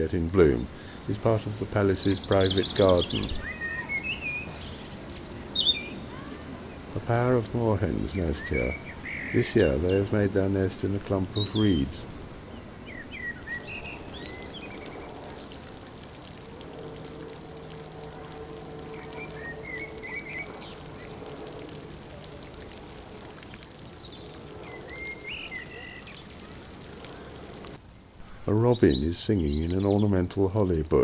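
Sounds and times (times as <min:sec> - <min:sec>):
faint low hum: 0:00.0 - 0:31.0
running water splashing: 0:00.0 - 0:31.0
small songbird chirping: 0:00.6 - 0:06.8, 0:08.0 - 0:10.4, 0:11.0 - 0:16.4, 0:18.4 - 0:27.8, 0:28.7 - 0:30.8.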